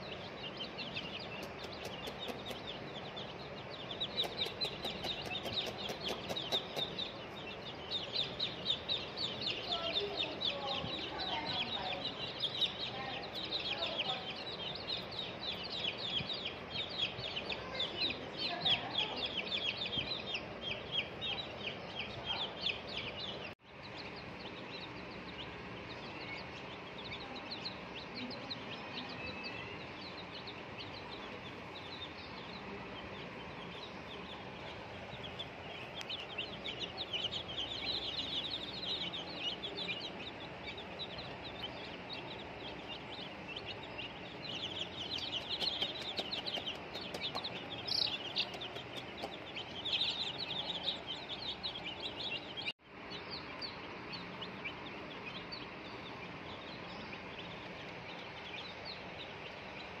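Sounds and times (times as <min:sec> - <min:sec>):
baby chicks peeping: 0:00.0 - 1:00.0.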